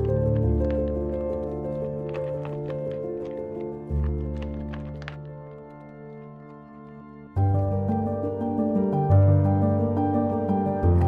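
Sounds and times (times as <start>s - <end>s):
sustained tone music with bass: 0.0s - 11.0s.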